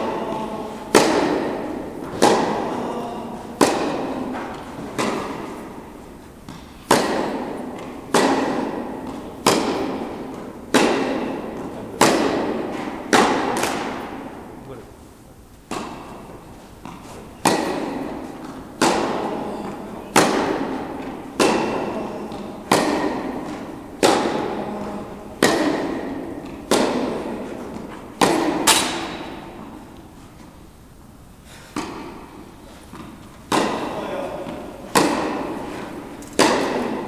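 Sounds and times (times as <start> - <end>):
tennis ball hit by rackets: 0.0 - 14.6, 15.6 - 30.0, 31.7 - 37.0.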